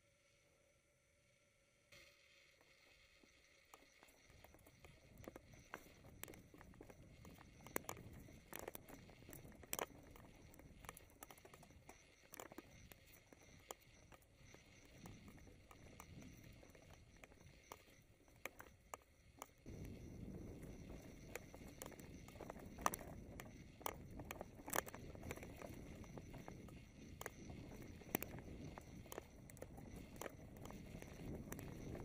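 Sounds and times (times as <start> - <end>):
wind: 4.2 - 32.0.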